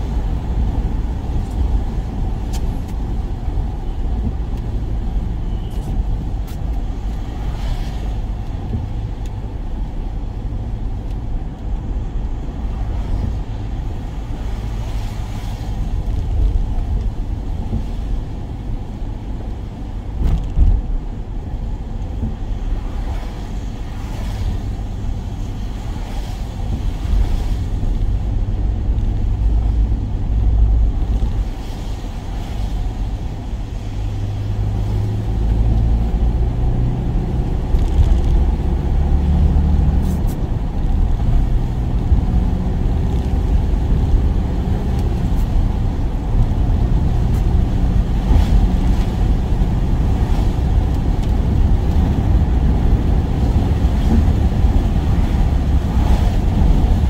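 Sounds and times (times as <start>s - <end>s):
van engine and road noise: 0.0s - 57.0s.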